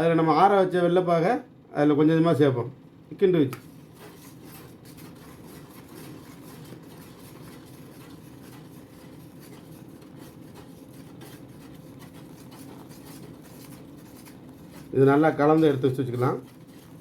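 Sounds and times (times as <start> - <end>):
stirring mixture in a bowl: 2.9 - 17.0.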